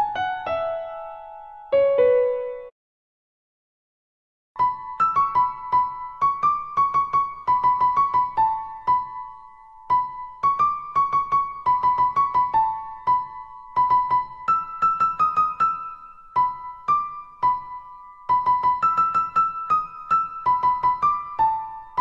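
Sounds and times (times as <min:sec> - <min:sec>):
electric piano melody: 0:00.0 - 0:02.7, 0:04.6 - 0:22.0.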